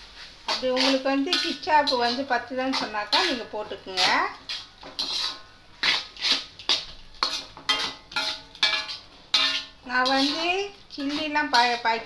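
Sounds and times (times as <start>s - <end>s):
utensil scraping a pan: 0.0s - 12.0s.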